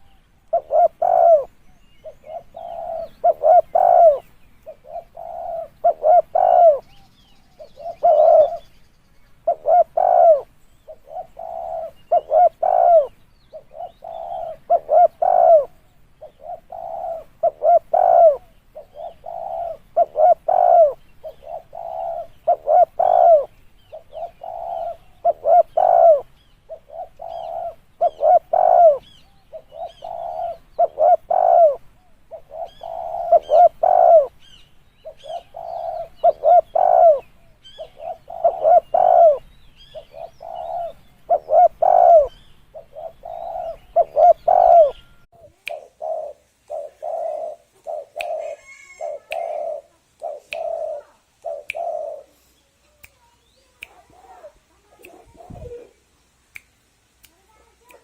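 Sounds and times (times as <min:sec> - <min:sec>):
dove cooing: 0:00.0 - 0:07.0, 0:07.6 - 0:08.6, 0:09.4 - 0:52.4, 0:53.9 - 0:56.0.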